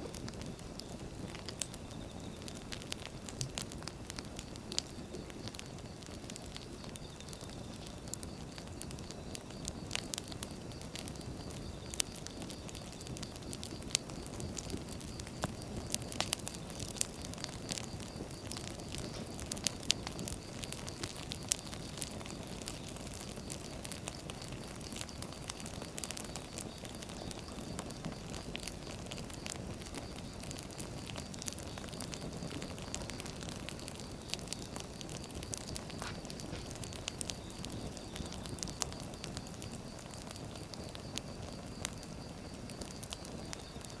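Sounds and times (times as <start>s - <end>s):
firewood crackling and popping: 0.0s - 44.0s
low rush of flame: 0.0s - 44.0s.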